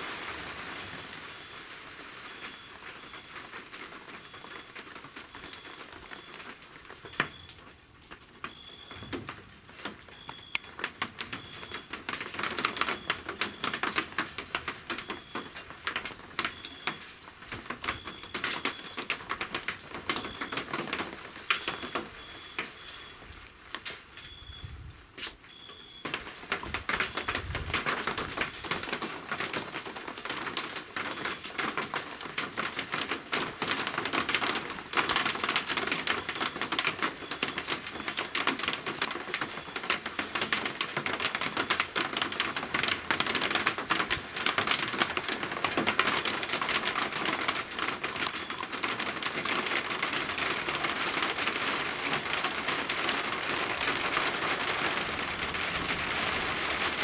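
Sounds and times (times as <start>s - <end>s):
heavy rain on a hard surface: 0.0s - 57.0s.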